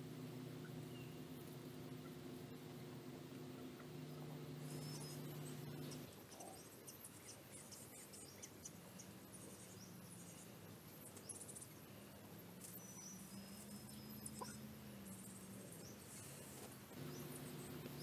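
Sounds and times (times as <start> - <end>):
birds peeping and chirping: 0.0 - 18.0
low steady hum: 0.0 - 18.0.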